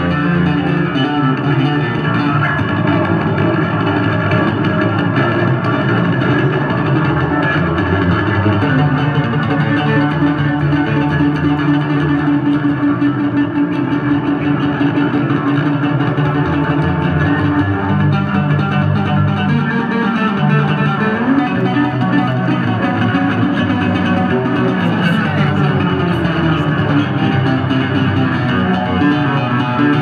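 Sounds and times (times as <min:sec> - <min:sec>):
electric bass solo: 0:00.0 - 0:30.0.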